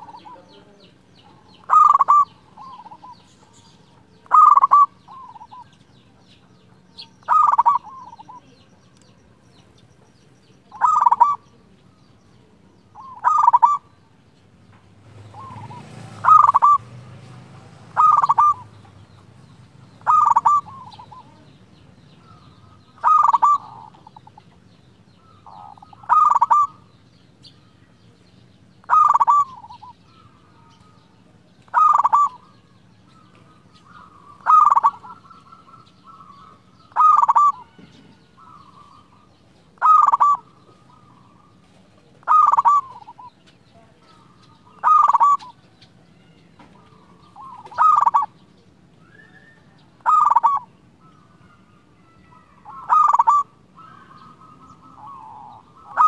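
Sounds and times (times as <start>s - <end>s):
dove cooing: 0.0s - 9.7s, 10.6s - 14.0s, 15.1s - 27.1s, 28.5s - 56.0s.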